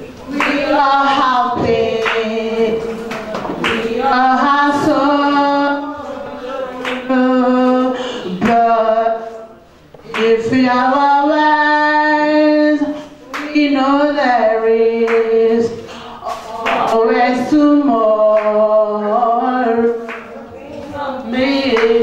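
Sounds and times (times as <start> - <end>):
woman singing into a microphone: 0.3 - 22.0.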